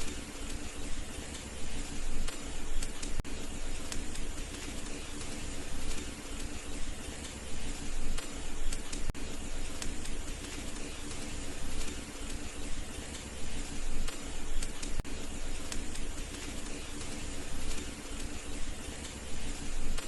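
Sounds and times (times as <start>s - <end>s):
wood fire hissing and crackling: 0.0s - 20.0s.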